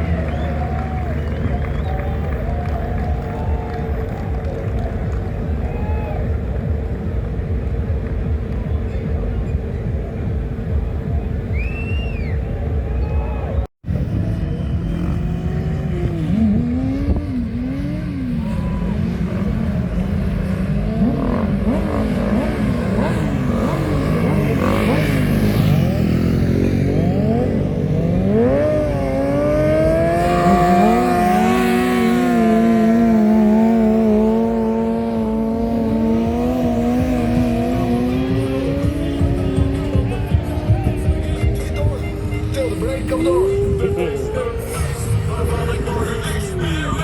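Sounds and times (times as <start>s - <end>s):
racing motorcycle engines accelerating: 0.0s - 47.0s.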